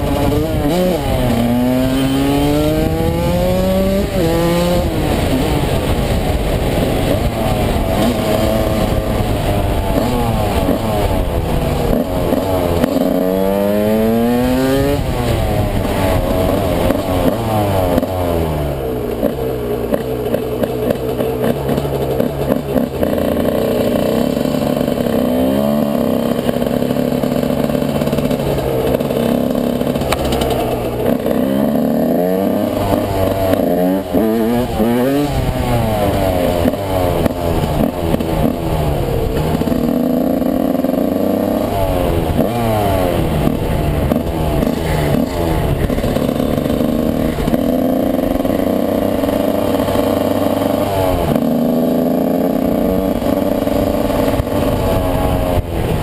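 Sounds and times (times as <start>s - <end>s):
two-stroke motorcycle engine revving: 0.0s - 56.0s.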